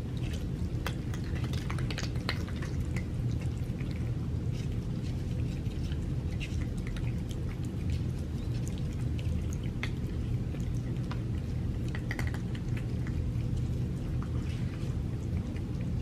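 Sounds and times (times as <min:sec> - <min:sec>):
cats chewing and licking meat: 0:00.0 - 0:16.0
steady low rumble: 0:00.0 - 0:16.0.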